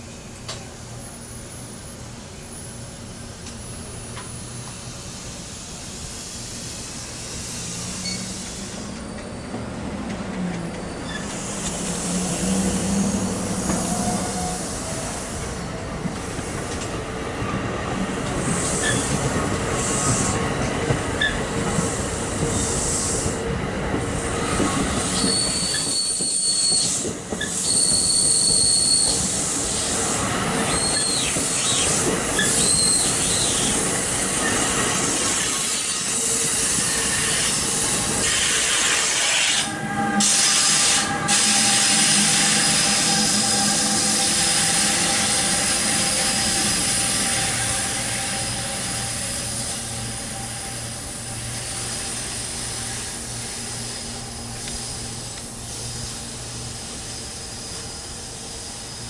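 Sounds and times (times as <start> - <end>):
train rumbling: 0.0 - 59.0
train wheels squealing on rails: 0.0 - 59.0.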